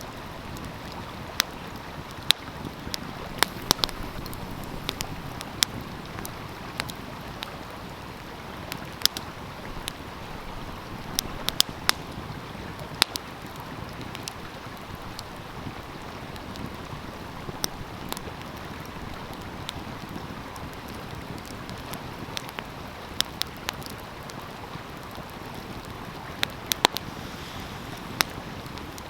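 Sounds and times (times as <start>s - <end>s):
flowing stream: 0.0s - 29.0s
wood fire crackling: 0.0s - 29.0s.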